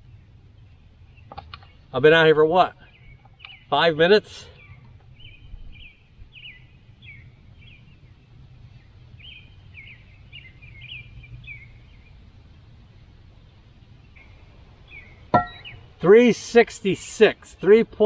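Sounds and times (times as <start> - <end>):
songbird chirping: 0.0 - 16.6
low steady rumble: 0.0 - 17.7.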